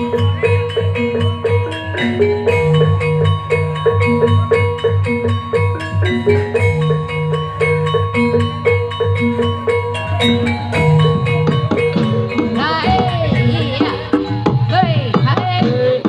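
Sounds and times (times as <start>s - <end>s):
metallophones playing melody: 0.0s - 16.0s
steady drum beat: 0.0s - 16.0s.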